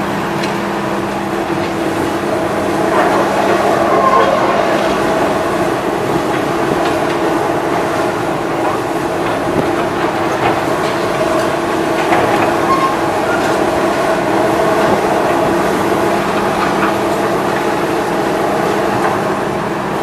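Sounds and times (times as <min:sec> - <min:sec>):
demolition machinery droning: 0:00.0 - 0:20.0.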